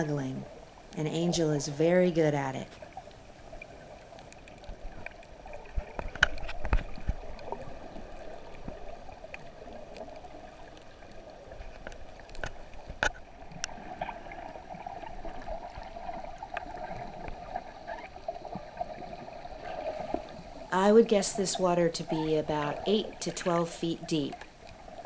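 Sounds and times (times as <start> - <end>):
muffled underwater water hiss: 2.7 - 25.0.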